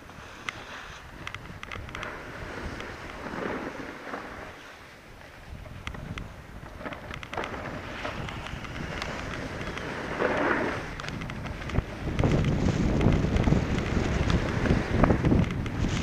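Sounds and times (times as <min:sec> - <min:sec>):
skis scraping on snow: 0:00.0 - 0:16.0
wind buffeting microphone: 0:00.0 - 0:16.0
small clicks: 0:00.4 - 0:03.2, 0:05.7 - 0:16.0.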